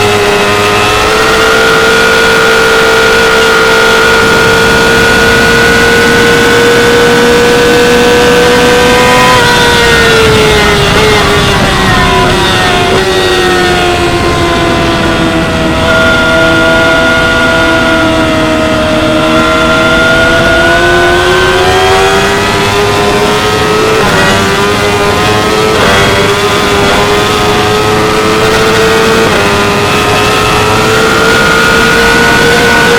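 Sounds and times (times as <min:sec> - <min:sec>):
motorcycle engine at high revs: 0:00.0 - 0:32.9.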